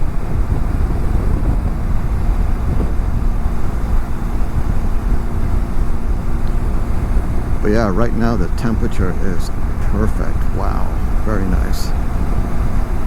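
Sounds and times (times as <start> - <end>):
motorcycle engine humming: 0.0 - 13.0
wind buffeting microphone: 0.0 - 13.0.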